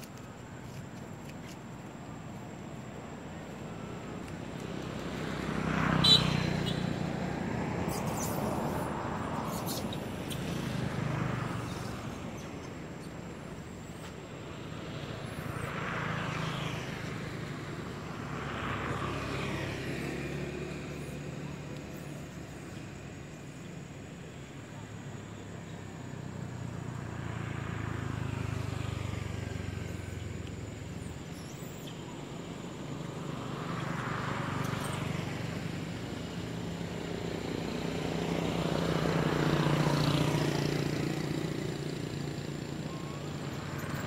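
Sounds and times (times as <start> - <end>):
motor vehicles passing: 0.0 - 44.0.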